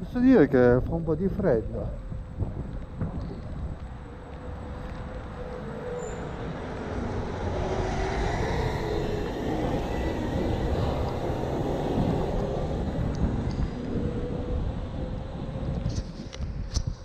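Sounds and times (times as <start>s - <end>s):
electric scooter road noise: 0.0s - 17.0s
faint steady whine: 0.0s - 17.0s
wind buffeting microphone: 0.0s - 17.0s.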